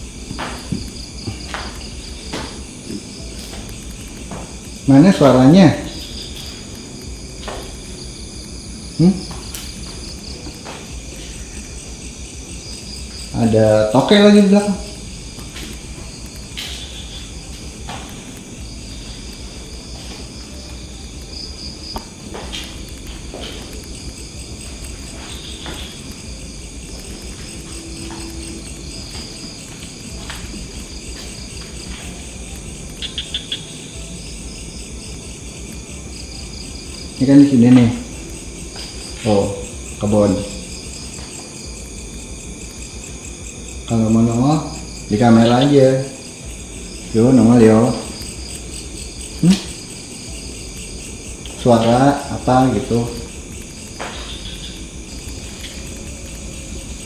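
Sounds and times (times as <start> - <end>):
crickets and insects chirring: 0.0 - 57.0.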